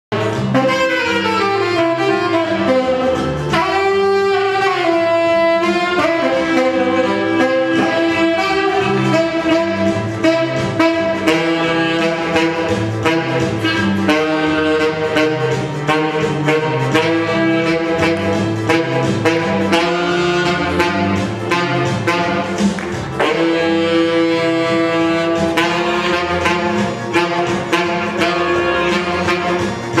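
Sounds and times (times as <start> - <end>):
saxophone melody: 0.1 - 30.0
walking bass: 0.1 - 30.0
steady drum beat: 0.4 - 30.0.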